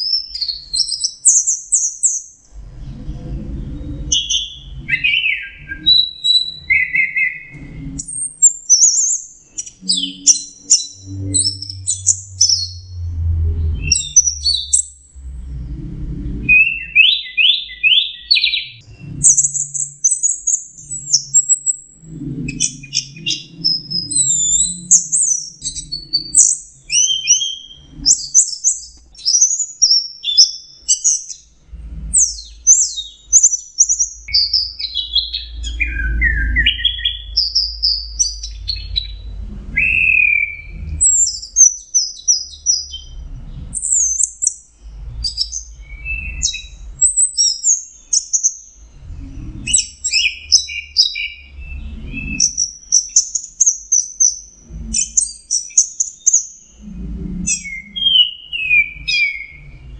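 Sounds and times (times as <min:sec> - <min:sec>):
low rumble: 0:02.3 - 0:08.4, 0:09.4 - 0:29.1, 0:31.3 - 0:33.4, 0:34.0 - 0:48.1, 0:48.7 - 0:53.1, 0:54.2 - 0:55.6, 0:56.7 - 0:58.2.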